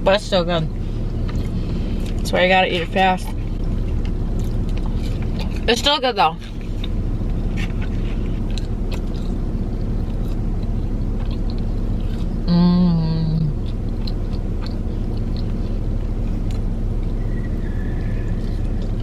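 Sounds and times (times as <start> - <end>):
car cabin engine hum: 0.0 - 19.0
loud hummed tone: 0.0 - 19.0
chewing and mouth clicks: 1.1 - 12.5, 13.1 - 19.0.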